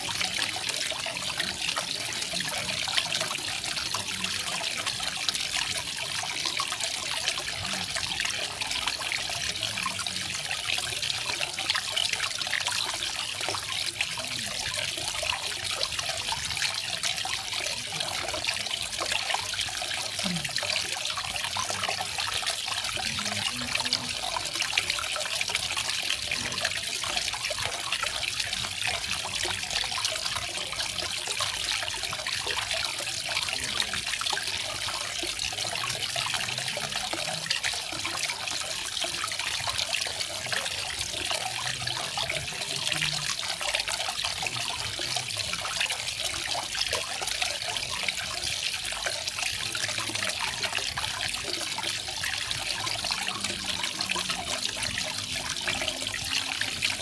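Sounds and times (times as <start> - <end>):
small waterfall trickling: 0.0 - 57.0.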